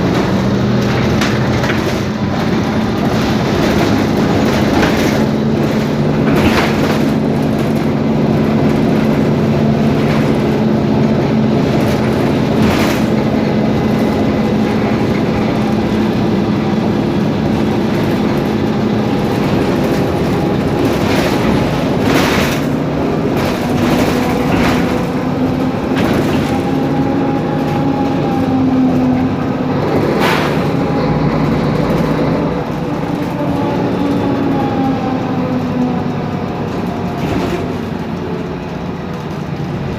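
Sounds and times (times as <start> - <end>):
bus diesel engine running: 0.0 - 39.9
drivetrain whine: 0.0 - 39.9.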